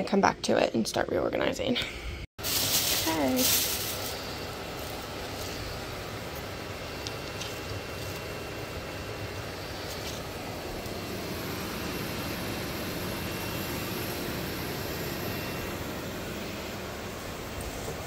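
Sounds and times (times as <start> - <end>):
household appliance humming: 2.4 - 18.0.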